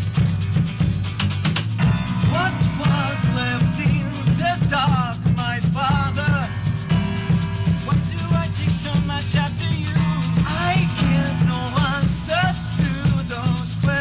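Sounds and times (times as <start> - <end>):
bass line: 0.0 - 14.0
keyboard: 0.0 - 14.0
strummed acoustic guitar: 0.0 - 14.0.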